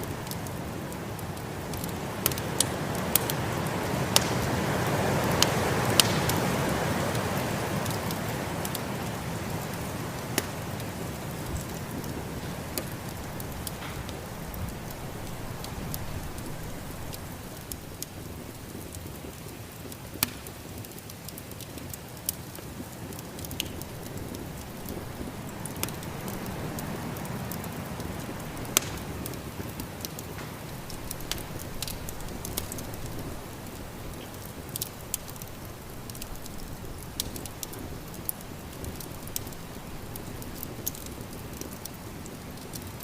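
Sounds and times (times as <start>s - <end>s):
whooshing snowstorm wind: 0.0s - 20.0s, 22.7s - 43.0s
wood fire crackling: 0.0s - 43.0s.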